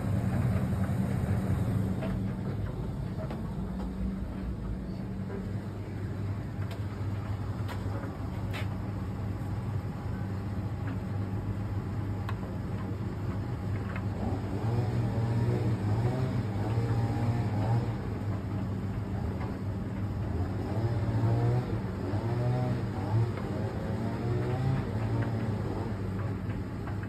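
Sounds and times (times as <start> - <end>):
clothes dryer running: 0.0 - 27.0.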